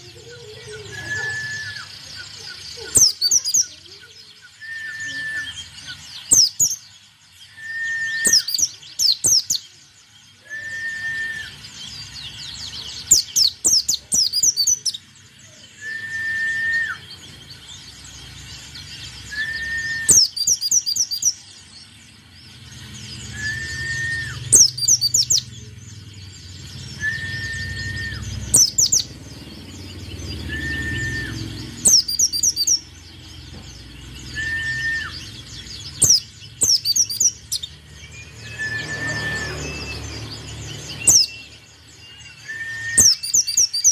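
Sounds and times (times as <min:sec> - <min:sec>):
rapid high bird twittering: 0:00.0 - 0:43.9.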